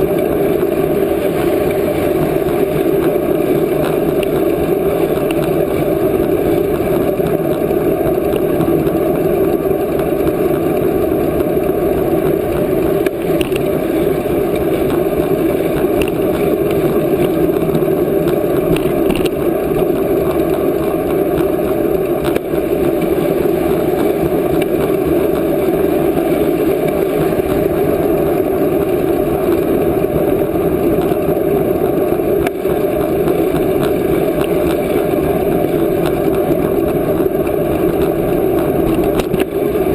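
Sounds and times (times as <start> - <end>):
bicycle tyre and road noise: 0.0 - 39.9.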